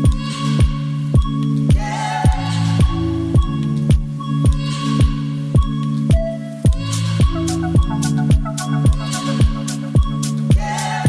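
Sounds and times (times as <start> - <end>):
kick drum beat: 0.0 - 10.7
low synth chords: 0.0 - 11.0.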